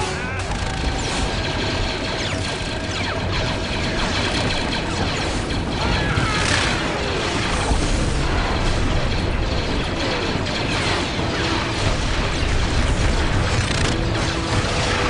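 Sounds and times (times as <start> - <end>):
low rumble of battle: 0.0 - 15.0
sci-fi blaster fire: 0.0 - 15.0.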